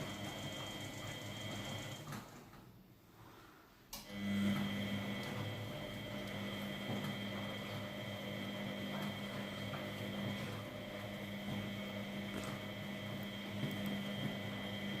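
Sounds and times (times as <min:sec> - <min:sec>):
washing machine motor humming: 0:00.0 - 0:02.8, 0:04.0 - 0:15.0.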